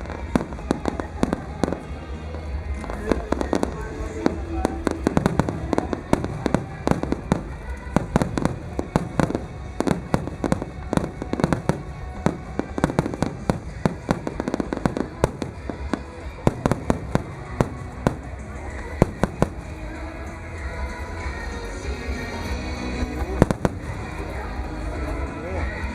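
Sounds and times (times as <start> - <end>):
fireworks bursting: 0.0 - 25.9.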